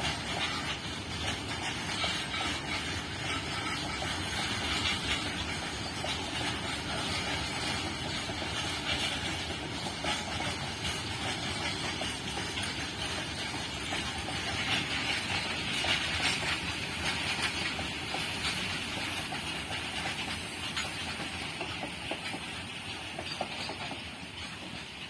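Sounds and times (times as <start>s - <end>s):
train wheels rumbling on rails: 0.0s - 25.0s
wagons clicking and rattling: 0.0s - 25.0s.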